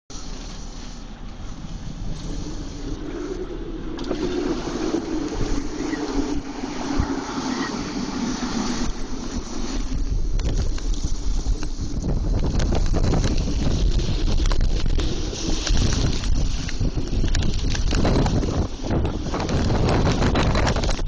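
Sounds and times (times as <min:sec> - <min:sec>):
steady low hum: 0:00.1 - 0:20.8
wind buffeting microphone: 0:01.0 - 0:21.0.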